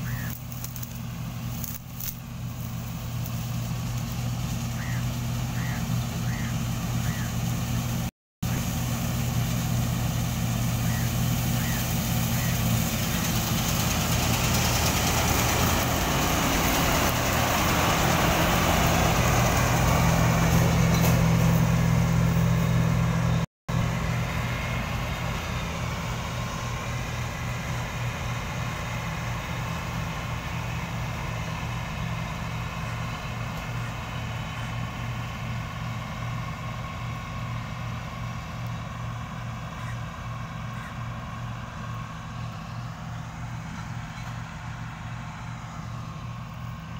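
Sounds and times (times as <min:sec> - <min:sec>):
combine harvester engine drone: 0:00.0 - 0:46.9
hum of machinery: 0:00.0 - 0:46.9.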